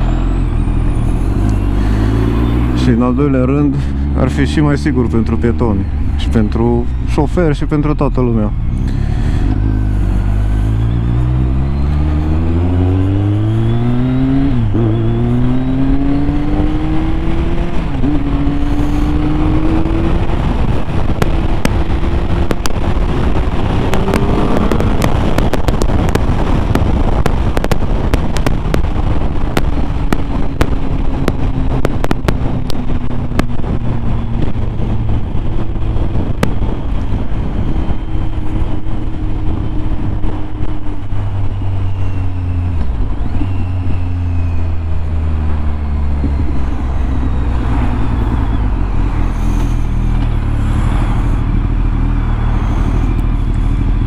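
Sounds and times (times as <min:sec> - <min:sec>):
motorcycle engine accelerating: 0:00.0 - 0:54.0
wind buffeting microphone: 0:08.5 - 0:54.0.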